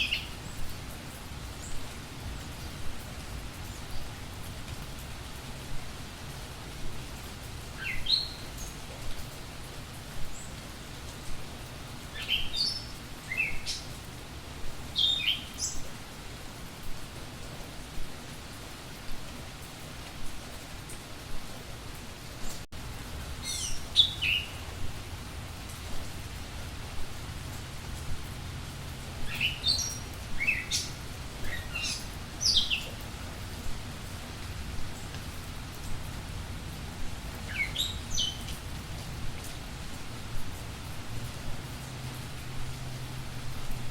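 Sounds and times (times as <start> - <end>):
steady background hiss: 0.0 - 43.9.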